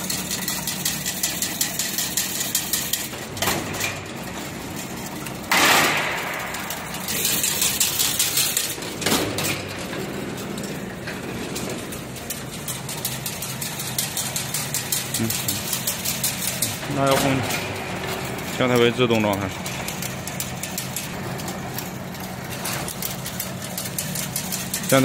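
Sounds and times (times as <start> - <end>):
machine motor hum: 0.0 - 25.0
rapid mechanical clicking: 0.0 - 25.0.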